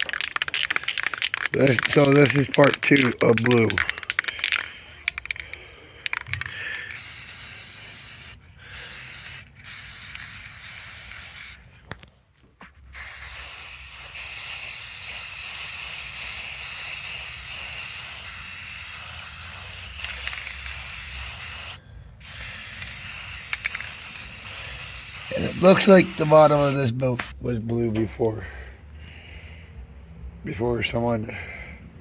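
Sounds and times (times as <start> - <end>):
aerosol spray can spraying: 0.0 - 11.6, 12.9 - 27.4.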